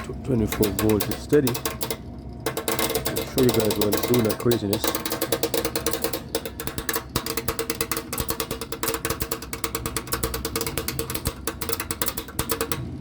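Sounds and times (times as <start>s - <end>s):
compressor contactor chattering: 0.0s - 13.0s.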